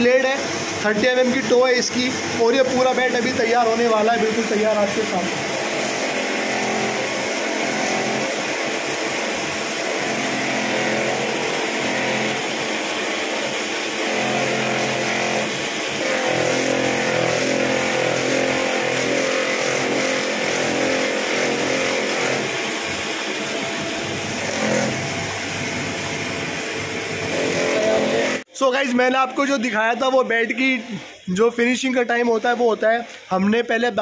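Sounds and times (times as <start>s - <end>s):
machine hum: 0.0s - 28.5s
wood hissing on a roller: 0.2s - 28.5s.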